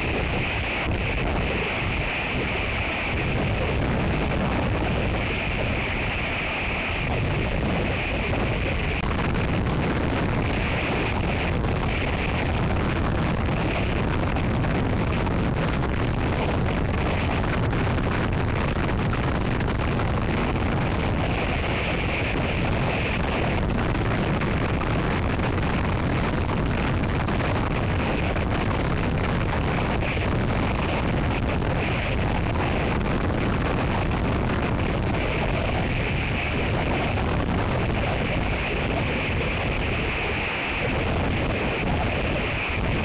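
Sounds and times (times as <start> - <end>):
gusty wind on microphone: 0.0 - 43.0.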